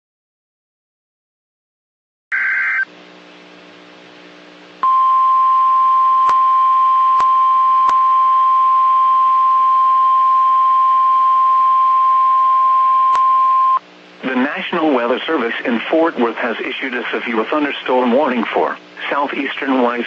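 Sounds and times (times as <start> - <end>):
faint receiver hum and hiss: 2.7 - 20.0.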